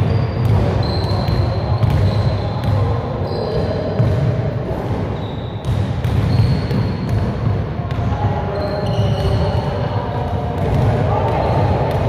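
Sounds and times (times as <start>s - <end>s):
basketball bouncing on gym floor: 0.0s - 4.4s, 5.2s - 12.0s.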